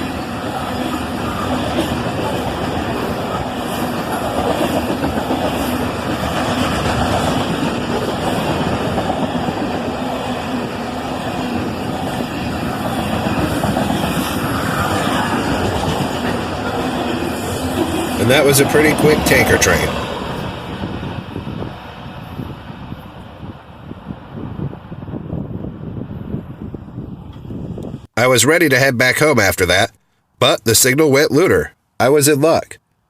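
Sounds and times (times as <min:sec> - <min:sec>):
steel wheels rumbling on rails: 0:00.0 - 0:28.1.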